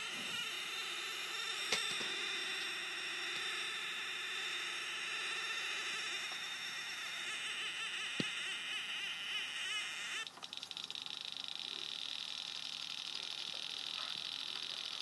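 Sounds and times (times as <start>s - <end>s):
electronic buzz: 0.0s - 15.0s.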